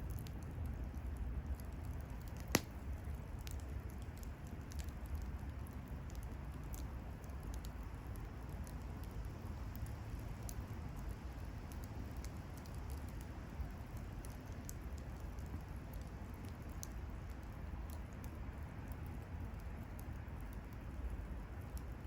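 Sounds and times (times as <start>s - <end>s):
wood bonfire crackling: 0.0s - 22.0s.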